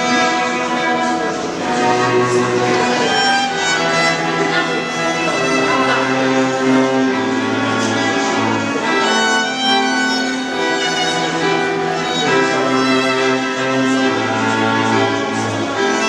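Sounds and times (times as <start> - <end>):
cello line: 0.0 - 16.0
violins playing melody: 0.0 - 16.0.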